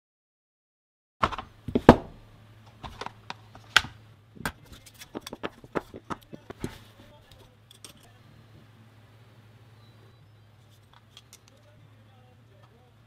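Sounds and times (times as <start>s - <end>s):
faint low hum: 1.3s - 13.0s.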